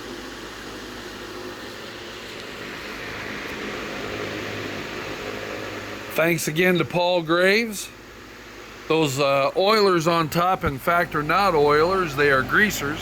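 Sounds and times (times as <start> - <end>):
fan motor hum: 0.0 - 13.0
rush of air from fan: 0.0 - 13.0.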